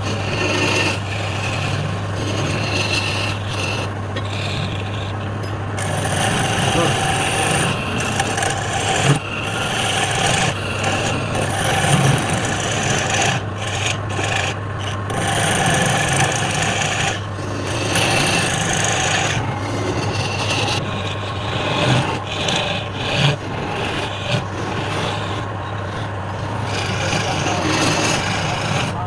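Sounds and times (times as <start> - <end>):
lathe motor hum: 0.0 - 29.0
tool scraping spinning wood: 0.0 - 29.0.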